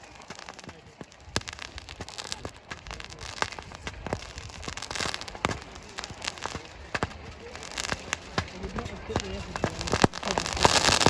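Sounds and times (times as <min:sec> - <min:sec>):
fireworks bangs and pops: 0:00.0 - 0:11.0
fireworks crackling: 0:00.0 - 0:11.0.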